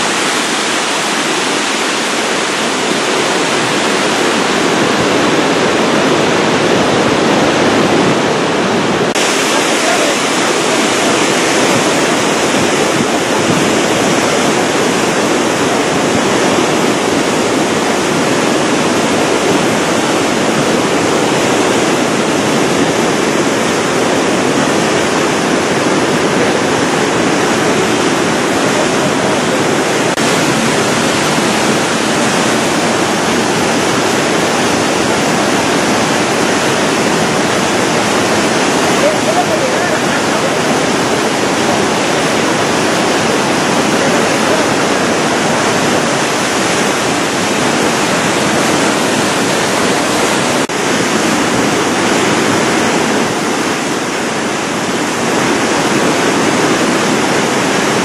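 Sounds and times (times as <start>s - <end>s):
flood torrent roaring: 0.0s - 58.0s.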